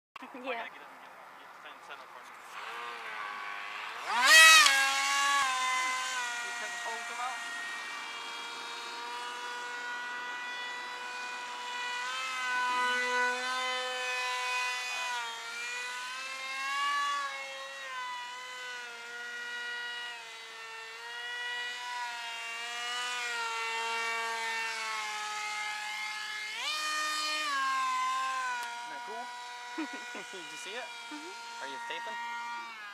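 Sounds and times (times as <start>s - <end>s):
electric motor and propeller whining: 0.2s - 32.9s.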